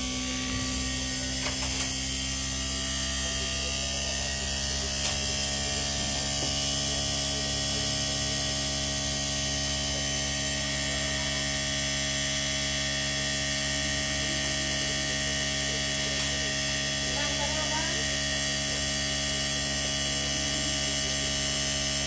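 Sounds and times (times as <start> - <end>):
air conditioner unit humming: 0.0 - 22.0.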